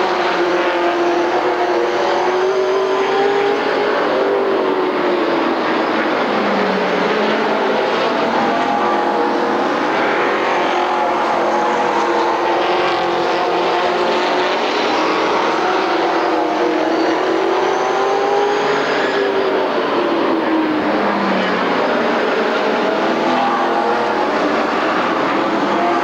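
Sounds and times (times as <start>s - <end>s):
race cars passing on track: 0.0s - 26.0s.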